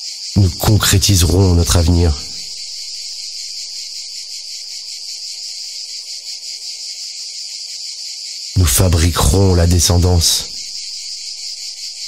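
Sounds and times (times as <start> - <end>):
insects buzzing chorus: 0.0 - 12.0.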